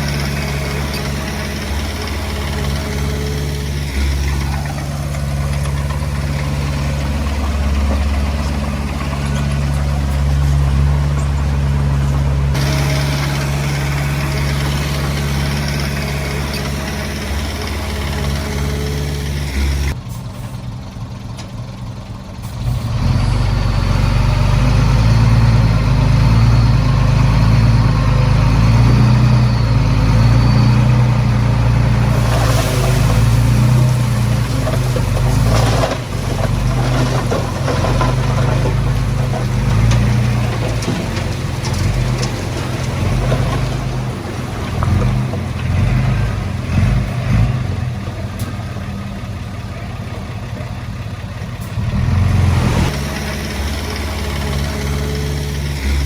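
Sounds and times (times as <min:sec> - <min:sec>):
heavy diesel engine running hard: 0:00.0 - 0:56.0.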